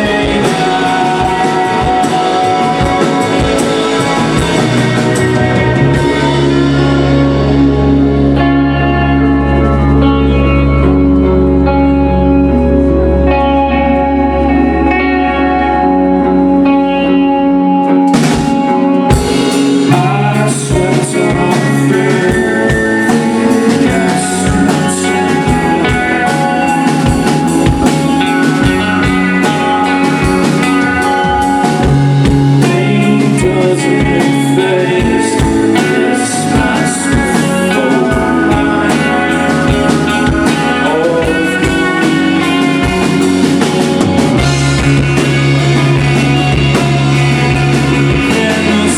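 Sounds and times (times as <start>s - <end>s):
drum kit beat: 0.0s - 8.6s, 18.1s - 48.9s
electric guitar chords: 0.0s - 48.9s.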